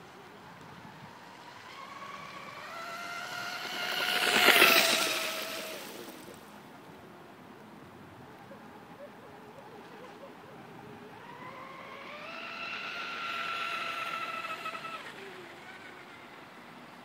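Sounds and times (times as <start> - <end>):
rc boat motor whine: 0.0 - 17.0.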